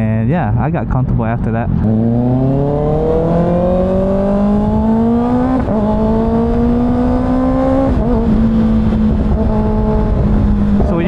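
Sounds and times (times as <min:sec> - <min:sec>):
motorcycle engine accelerating: 0:01.6 - 0:11.0.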